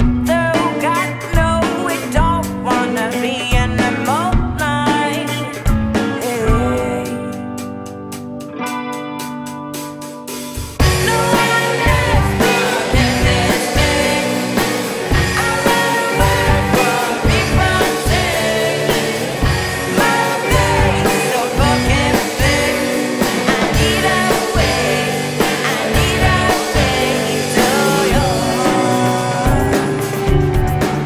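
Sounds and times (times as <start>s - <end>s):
person singing: 0.0s - 7.7s, 10.8s - 31.0s
electro pop rock song: 0.0s - 31.0s.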